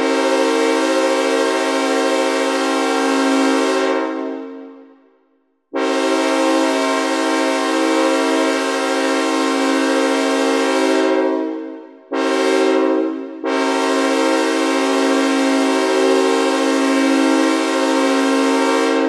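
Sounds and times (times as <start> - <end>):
synthesizer train horn blasts: 0.0 - 19.0.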